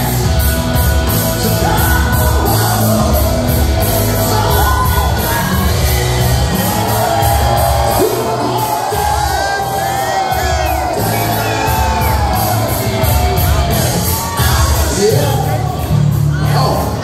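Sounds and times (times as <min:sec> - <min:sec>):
crowd shouting and whooping: 0:00.0 - 0:17.0
drums cymbal beat: 0:00.0 - 0:17.0
live rock band playing: 0:00.0 - 0:17.0.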